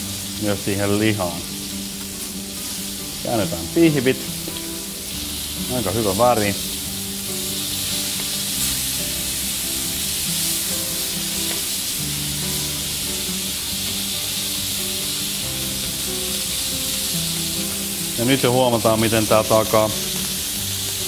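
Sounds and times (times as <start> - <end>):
background music: 0.0 - 21.0
steaks sizzling in a frying pan: 0.0 - 21.0.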